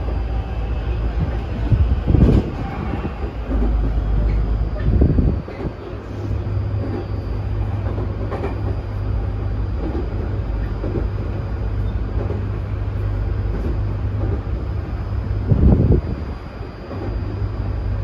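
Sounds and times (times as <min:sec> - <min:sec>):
faint high whine: 0:00.0 - 0:18.0
train wheels rumbling: 0:00.0 - 0:18.0.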